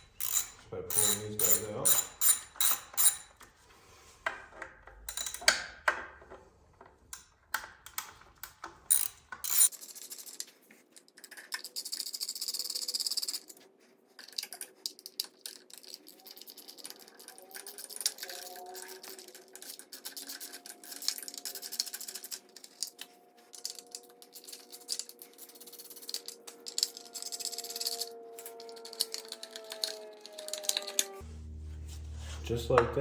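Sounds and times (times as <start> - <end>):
metallic clicks of tools and bolts: 0.0 - 3.5, 4.6 - 6.3, 7.1 - 13.6, 14.2 - 31.2.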